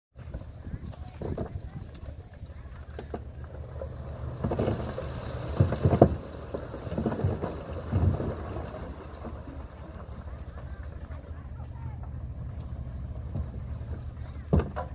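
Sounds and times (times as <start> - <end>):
diesel engine rumble: 0.2 - 14.9.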